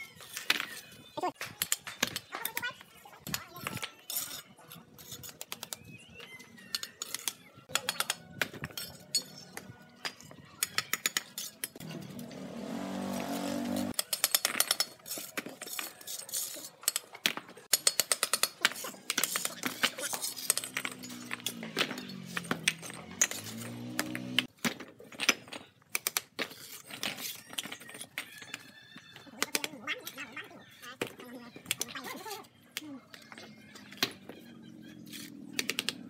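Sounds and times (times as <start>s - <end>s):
trowel clinking and scraping on bricks: 0.0s - 36.0s.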